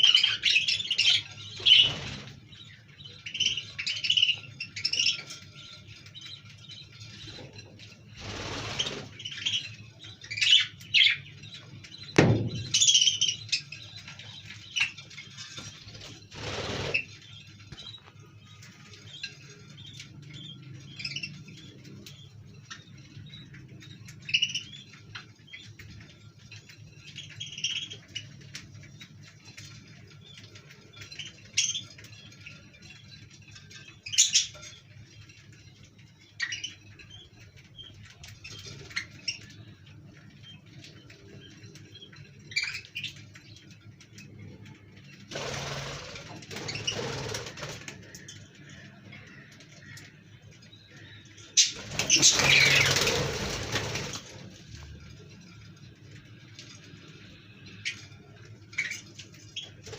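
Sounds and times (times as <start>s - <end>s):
budgies chirping: 0.0s - 59.9s.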